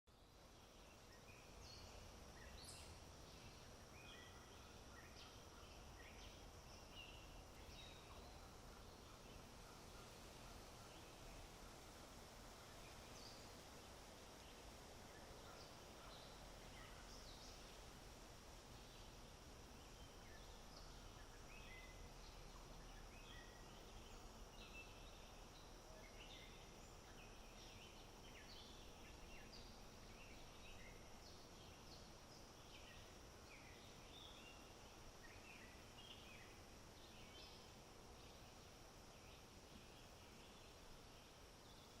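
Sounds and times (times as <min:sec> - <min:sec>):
steady high-pitched hiss: 0:00.1 - 0:42.0.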